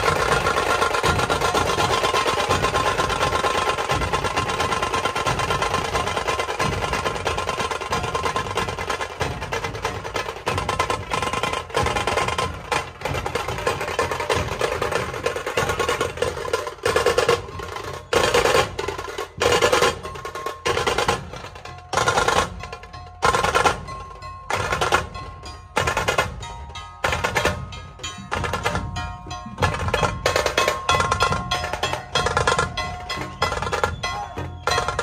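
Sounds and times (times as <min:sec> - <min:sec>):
barrel drums and snare drums: 0:00.0 - 0:35.0.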